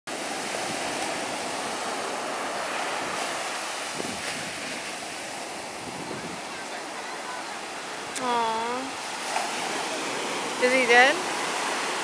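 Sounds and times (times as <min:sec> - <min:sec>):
waves breaking on beach: 0:00.1 - 0:12.0.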